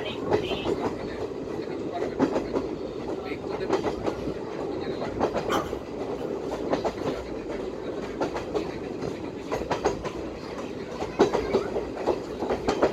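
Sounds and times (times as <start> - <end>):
train wheels rumbling on rails: 0.0 - 12.9
wheels clicking over rail joints: 0.0 - 12.9.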